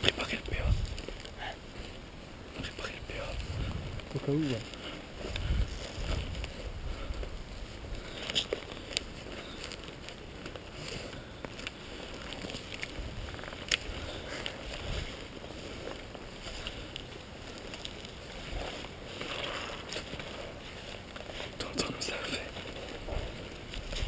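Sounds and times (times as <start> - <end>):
rustling: 0.0 - 24.0
footsteps squelching through mud: 3.1 - 24.0.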